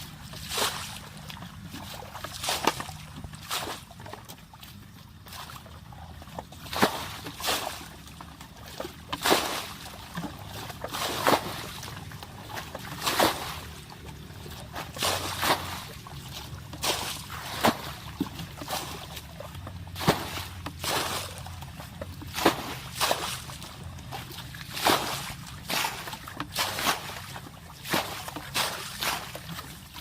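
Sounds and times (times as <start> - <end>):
low steady hum: 0.0 - 30.0
water splashing and sloshing: 0.0 - 30.0.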